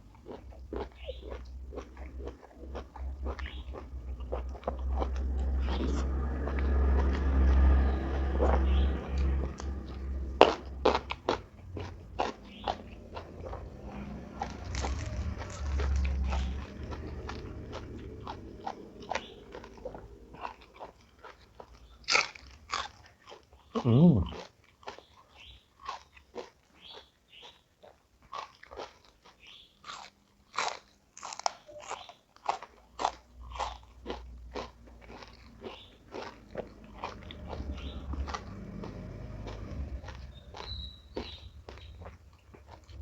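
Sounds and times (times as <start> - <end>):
crunchy food being chewed: 0.0 - 43.0.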